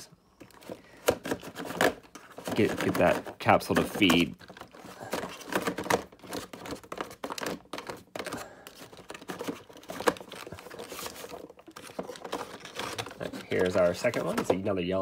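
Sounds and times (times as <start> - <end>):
cardboard crinkling: 0.0 - 15.0.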